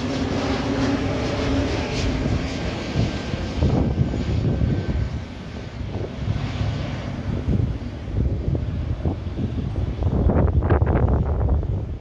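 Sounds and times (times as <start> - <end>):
jet engines droning overhead: 0.0 - 12.0.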